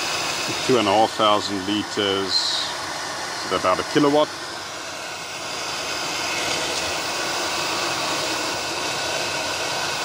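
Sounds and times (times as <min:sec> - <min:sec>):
pump motor whine: 0:00.0 - 0:10.0.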